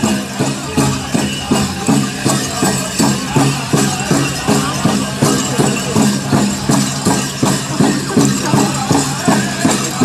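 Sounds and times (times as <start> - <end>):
large drum beating: 0.0 - 10.0.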